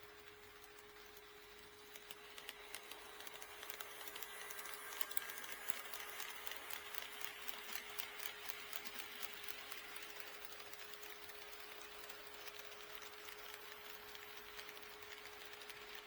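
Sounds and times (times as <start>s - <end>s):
model train wheels clicking: 0.0s - 16.0s.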